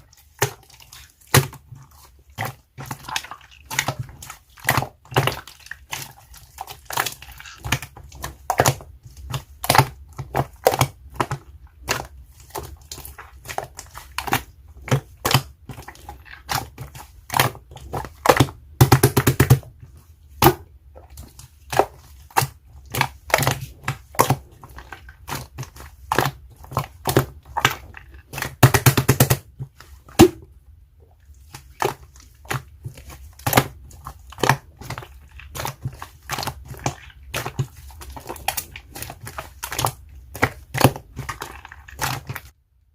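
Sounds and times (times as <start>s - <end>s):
slime squeezed with wet pops: 0.0s - 42.6s.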